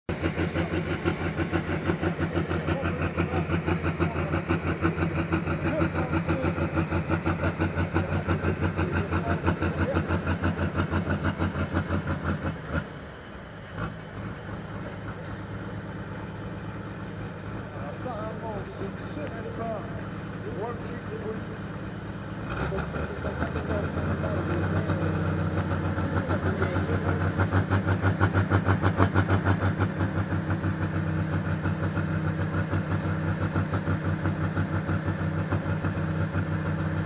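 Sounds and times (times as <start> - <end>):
steady engine hum: 0.0 - 37.0
tractor engine idling: 0.0 - 37.0.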